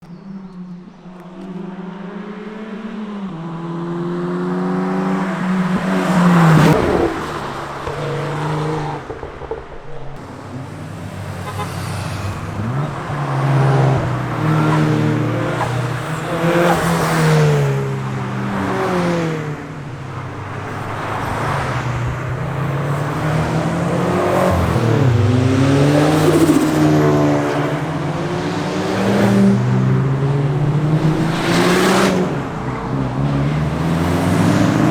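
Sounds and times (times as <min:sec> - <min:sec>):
performance cars revving past: 0:01.2 - 0:34.9.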